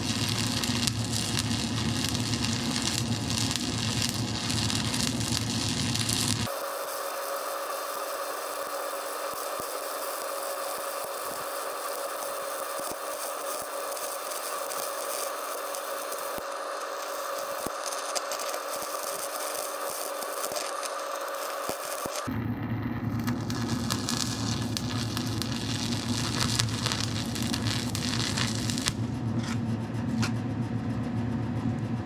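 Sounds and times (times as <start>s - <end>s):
constant hum: 0.0s - 6.9s, 7.8s - 32.0s
welding arc frying hiss: 0.0s - 22.3s, 23.2s - 29.0s.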